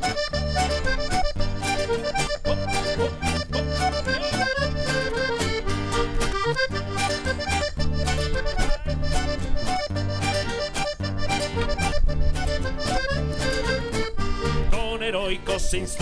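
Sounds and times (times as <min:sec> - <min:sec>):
steady beat: 0:00.0 - 0:15.0
accordion playing: 0:00.0 - 0:16.0.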